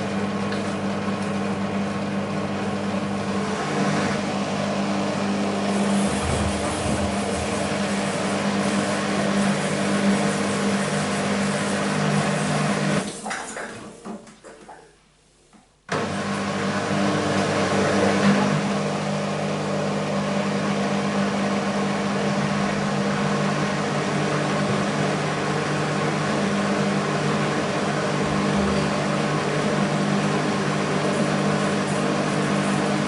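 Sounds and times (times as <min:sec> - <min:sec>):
washing machine motor hum: 0:00.0 - 0:14.9, 0:15.9 - 0:33.0.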